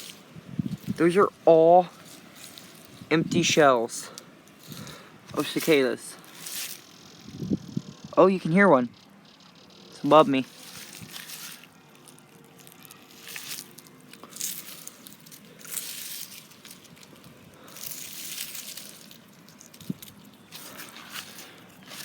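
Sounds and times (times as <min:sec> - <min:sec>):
crunching and rustling: 0:00.0 - 0:07.4, 0:09.9 - 0:22.0.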